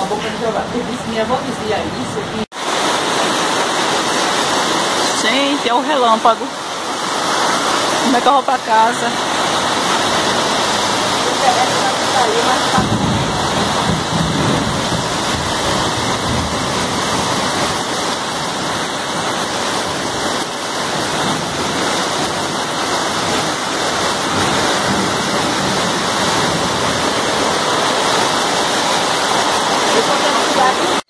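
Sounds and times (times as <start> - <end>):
heavy rain downpour: 0.0 - 31.0.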